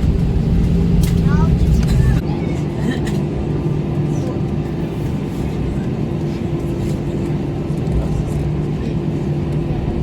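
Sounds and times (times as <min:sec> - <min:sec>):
airplane engines idling hum: 0:00.0 - 0:10.0.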